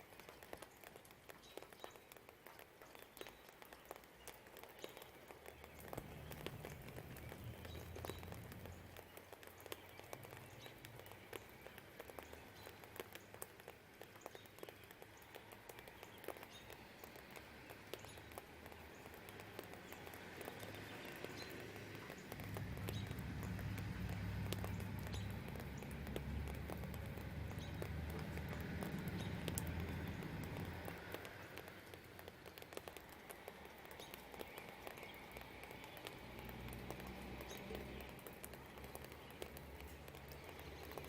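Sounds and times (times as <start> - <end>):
rain dripping and pattering: 0.0 - 41.0.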